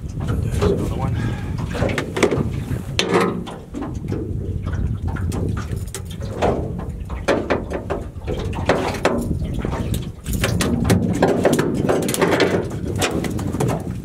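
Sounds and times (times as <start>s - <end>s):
low rumble of wind and water: 0.0s - 14.0s
fish knocking against boat deck: 0.2s - 14.0s.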